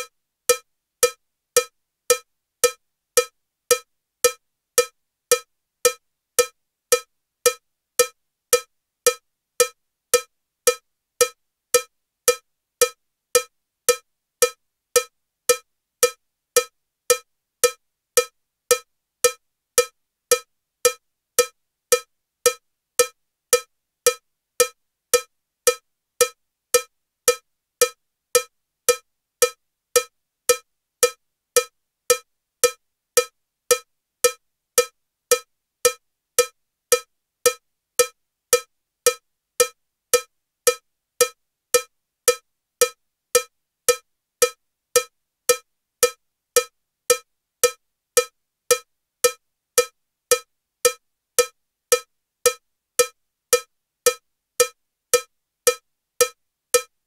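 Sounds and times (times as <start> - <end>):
metronome cowbell ticks: 0.0 - 57.0.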